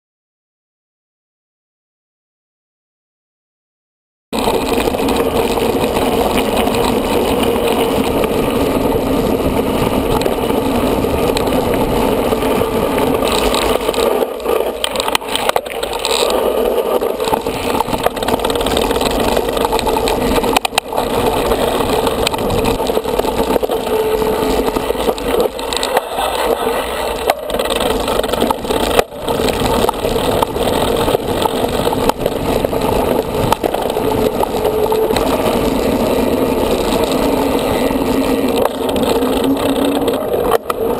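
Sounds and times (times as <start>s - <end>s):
wind rush: 4.4s - 40.9s.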